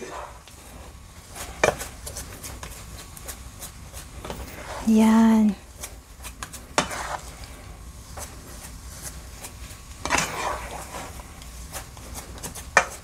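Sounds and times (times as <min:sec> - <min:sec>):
paddle stirring sticky rice: 0:00.0 - 0:13.0.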